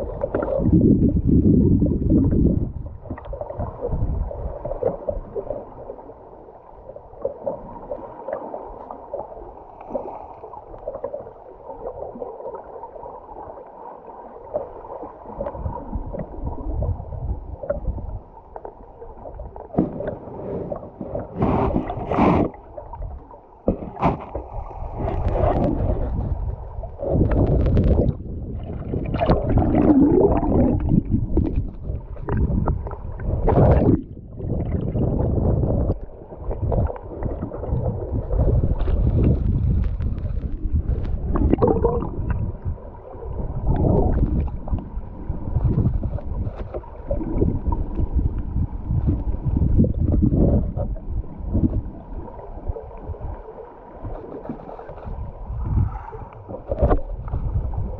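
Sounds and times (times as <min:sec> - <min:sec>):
underwater river rushing and gurgling: 0:00.0 - 0:57.9.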